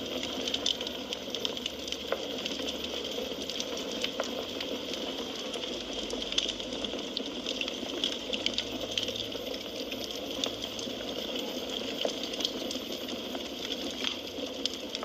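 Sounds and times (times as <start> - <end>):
firewood crackling and hissing: 0.0 - 15.0.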